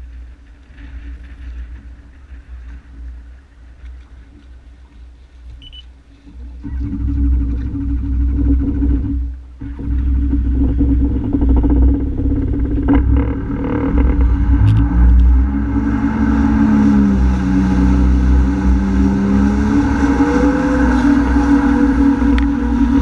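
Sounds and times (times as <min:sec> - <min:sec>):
watercraft engine rumbling: 0:00.0 - 0:23.0.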